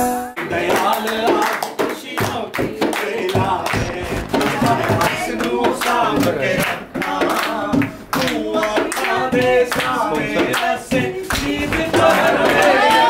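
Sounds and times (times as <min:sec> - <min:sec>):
hands clapping: 0:00.4 - 0:13.0
women singing together: 0:00.4 - 0:13.0.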